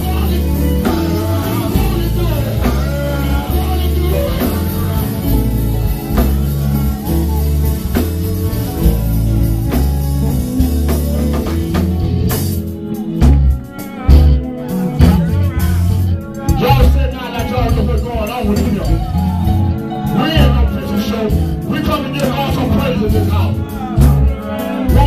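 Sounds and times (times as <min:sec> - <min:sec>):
gospel band playing: 0:00.0 - 0:25.0.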